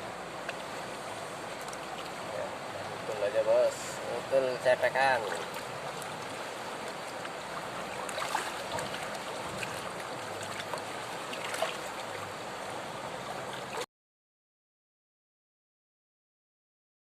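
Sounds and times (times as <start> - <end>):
river water rushing: 0.0 - 13.8.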